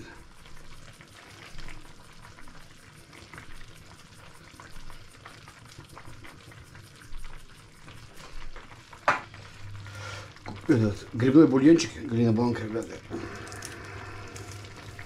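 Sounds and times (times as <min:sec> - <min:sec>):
meat and onions stewing bubbling: 0:00.0 - 0:15.0.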